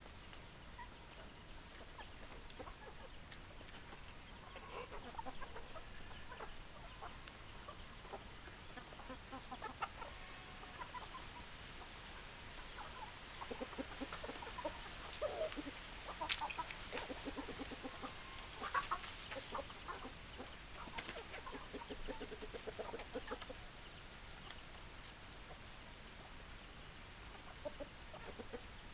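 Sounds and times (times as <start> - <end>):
hens clucking: 0.3 - 25.8, 26.6 - 28.9.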